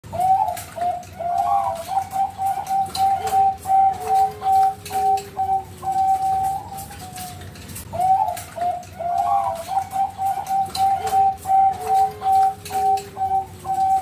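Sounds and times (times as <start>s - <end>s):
dove cooing: 0.1s - 14.0s.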